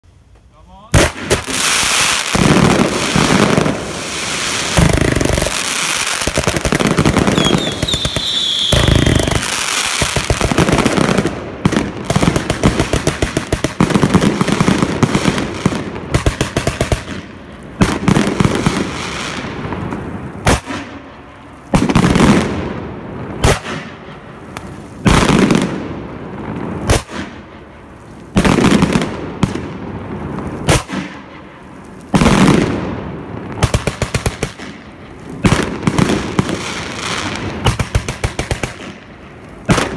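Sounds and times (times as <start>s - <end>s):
rapid fireworks crackling: 0.0s - 39.9s
fireworks cracks and booms: 0.3s - 39.9s.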